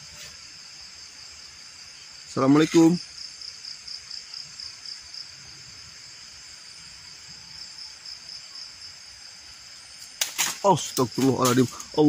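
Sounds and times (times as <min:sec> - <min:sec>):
night insects trilling: 0:00.0 - 0:12.0.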